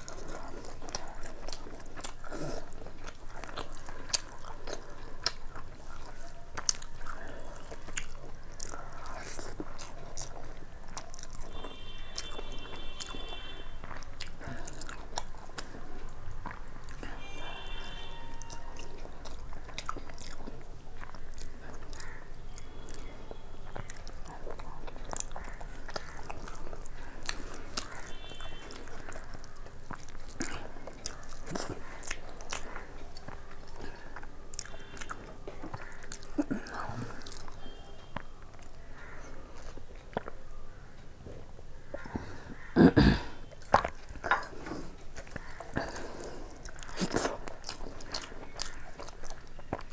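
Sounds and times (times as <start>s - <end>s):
person chewing with wet clicks: 0.0s - 49.9s.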